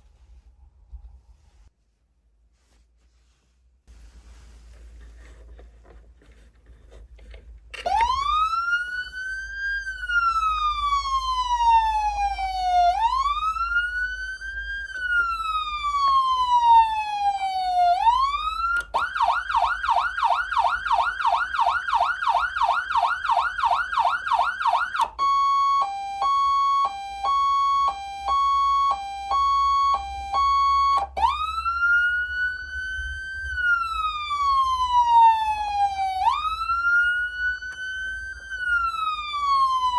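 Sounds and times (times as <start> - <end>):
electronic siren wail yelp and hi-lo: 7.8 - 39.9.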